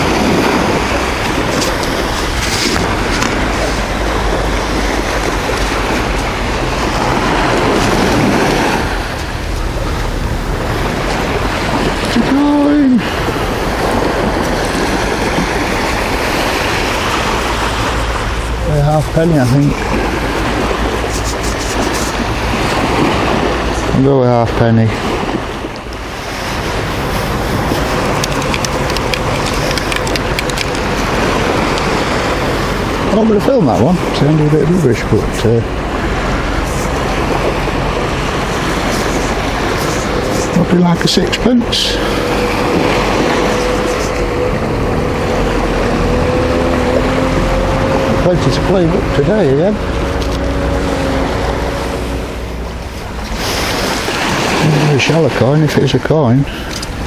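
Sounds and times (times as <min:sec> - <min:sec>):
sea surf washing on beach: 0:00.0 - 0:57.0
wind buffeting microphone: 0:00.0 - 0:57.0.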